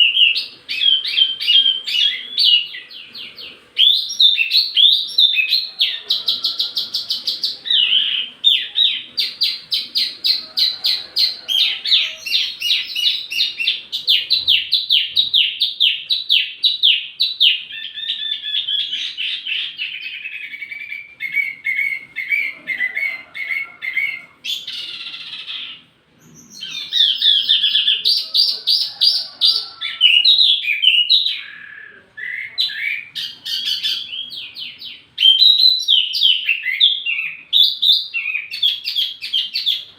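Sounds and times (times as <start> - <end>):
songbird singing fast trills: 0.0 - 22.6, 23.5 - 39.9.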